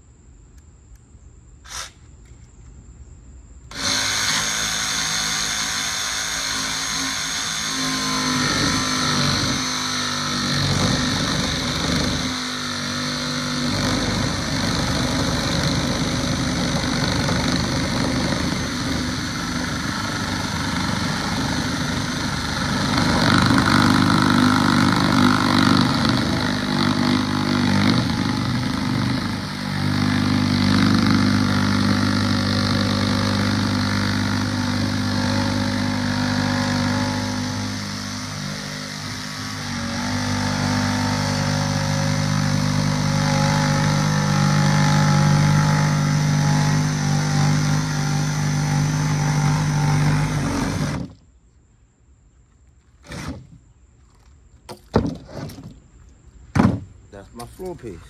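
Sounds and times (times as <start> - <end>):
jigsaw cutting plywood: 3.7 - 51.2.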